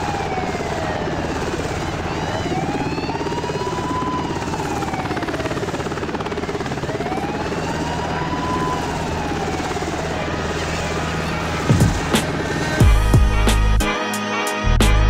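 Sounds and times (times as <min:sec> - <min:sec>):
helicopter flying past: 0:00.0 - 0:13.4.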